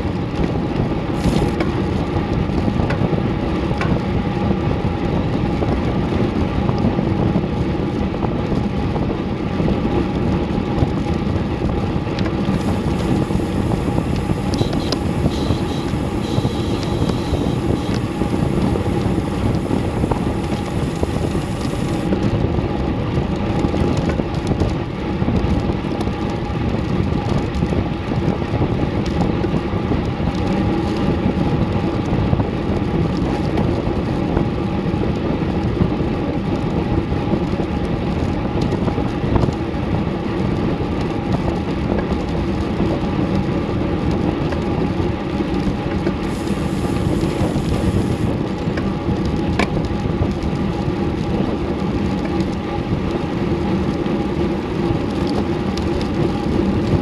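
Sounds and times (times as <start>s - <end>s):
tyre noise on asphalt: 0.0s - 57.0s
wind rush on microphone: 0.0s - 57.0s.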